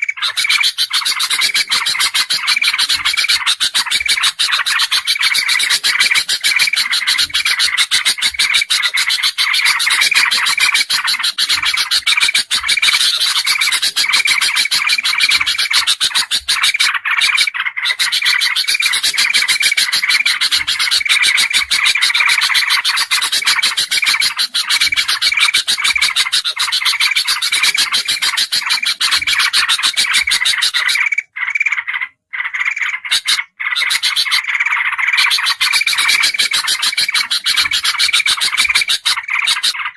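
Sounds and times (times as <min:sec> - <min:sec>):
bulbul chorus chattering: 0:00.0 - 0:39.9.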